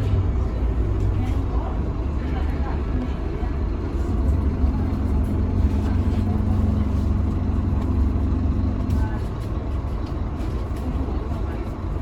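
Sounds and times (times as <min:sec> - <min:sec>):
bus engine low rumble: 0:00.0 - 0:12.0.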